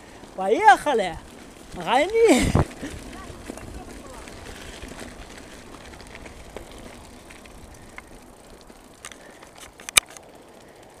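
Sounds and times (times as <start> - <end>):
bicycle tyres on gravel: 0.0 - 11.0
bike rattles and clicks: 0.0 - 11.0.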